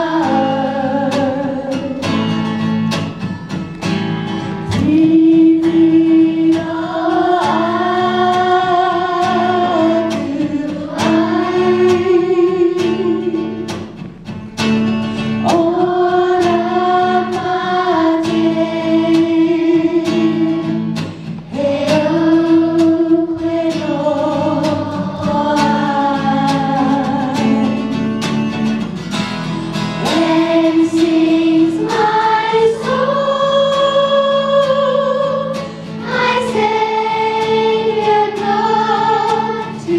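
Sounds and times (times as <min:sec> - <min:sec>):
children's choir singing: 0:00.0 - 0:14.0, 0:15.4 - 0:28.2, 0:29.6 - 0:39.9
acoustic guitar: 0:00.0 - 0:39.9.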